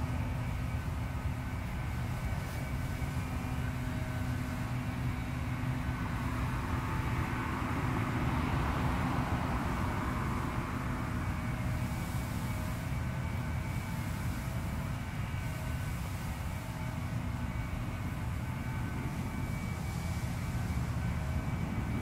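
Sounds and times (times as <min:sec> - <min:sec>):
motor vehicles rumbling: 0:00.0 - 0:22.0.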